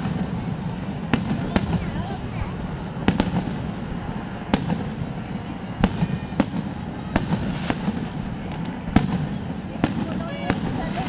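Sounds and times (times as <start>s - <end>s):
continuous low rumble: 0.0s - 11.0s
fireworks bangs: 0.0s - 11.0s.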